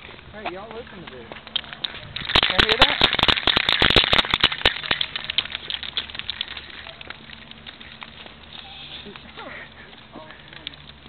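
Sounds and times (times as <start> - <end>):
crackling clicks: 1.3 - 11.0.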